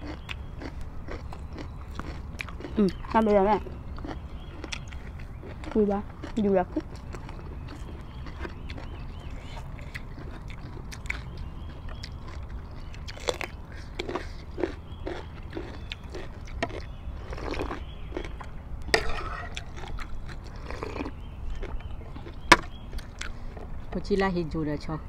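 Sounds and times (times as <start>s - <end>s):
crunchy cucumber chewing: 0.0s - 23.9s.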